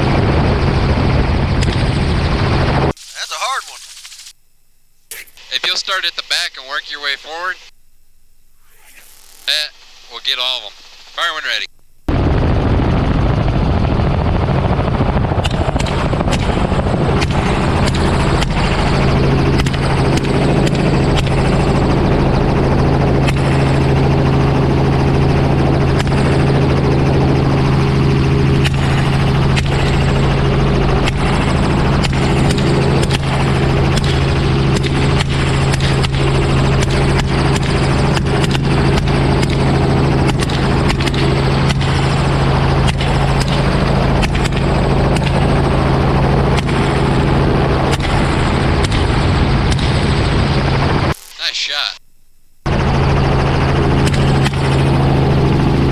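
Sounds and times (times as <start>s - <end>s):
helicopter engine and rotor drone: 0.0s - 4.4s, 5.3s - 7.8s, 8.7s - 52.0s, 52.6s - 55.9s.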